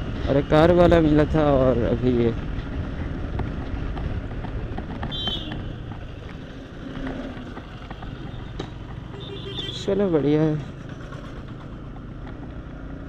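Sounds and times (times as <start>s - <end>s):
motorcycle engine and road rumble: 0.0s - 13.0s.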